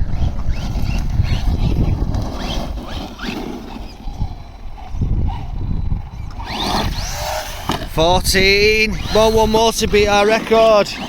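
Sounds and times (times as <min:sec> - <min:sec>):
rc truck motor whining: 0:00.0 - 0:11.0.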